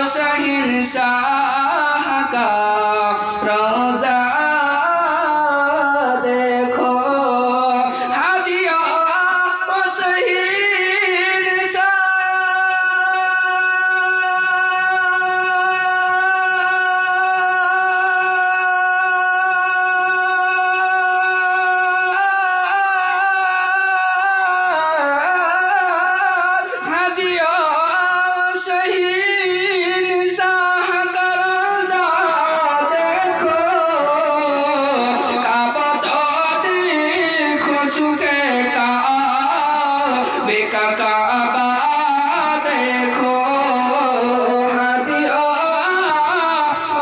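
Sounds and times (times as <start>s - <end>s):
man singing: 0.0s - 47.0s.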